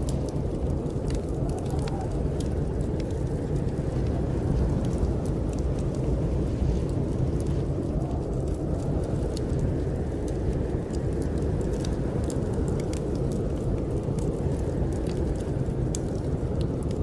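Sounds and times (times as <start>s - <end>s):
snowstorm wind rushing: 0.0s - 17.0s
wood fire crackling: 0.0s - 17.0s.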